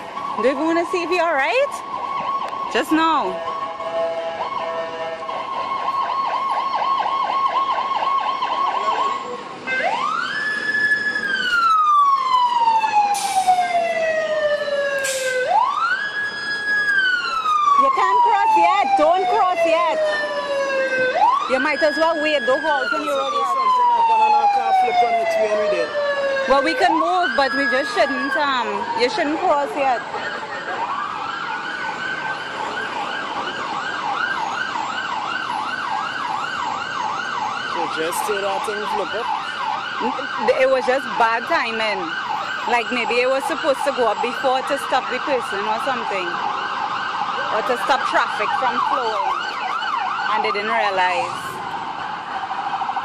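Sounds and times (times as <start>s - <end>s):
emergency vehicle siren wailing: 0.0s - 53.0s.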